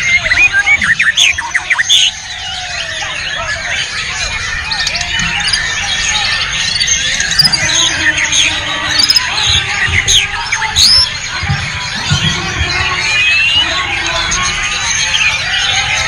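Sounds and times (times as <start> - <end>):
bird singing close up: 0.0 - 16.0
chorus of birds singing: 0.0 - 16.0.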